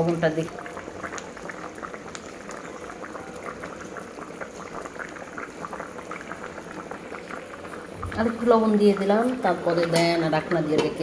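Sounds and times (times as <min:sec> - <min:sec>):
curry bubbling in a pot: 0:00.0 - 0:11.0.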